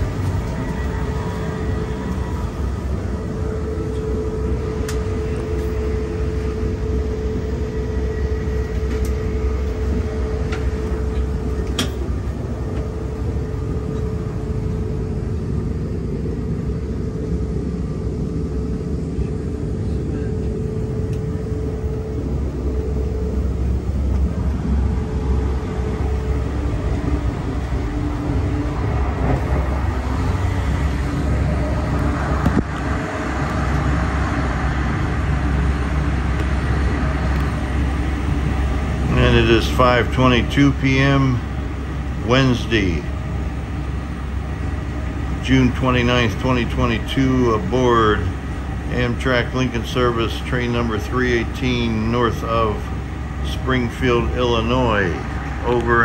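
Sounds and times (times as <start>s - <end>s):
steady hum: 0.0s - 56.0s
train coach rumble: 0.0s - 56.0s.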